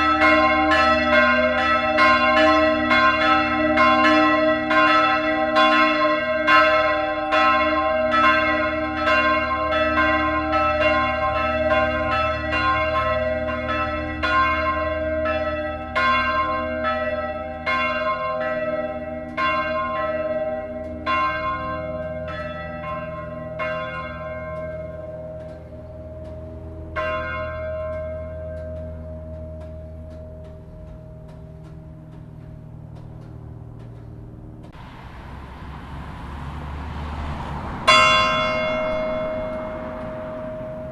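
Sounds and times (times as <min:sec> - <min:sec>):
long bell hum: 0:00.0 - 0:34.0, 0:37.8 - 0:40.9
church bells ringing: 0:00.0 - 0:40.9.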